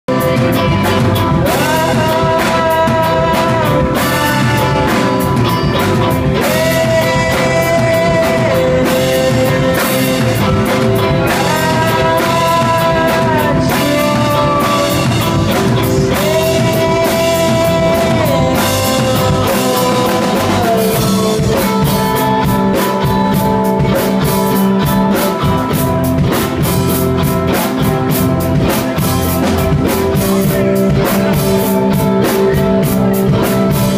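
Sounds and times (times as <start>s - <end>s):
bass guitar: 0.0s - 33.9s
electric guitar: 0.0s - 33.9s
drum kit and cymbals: 0.1s - 33.9s.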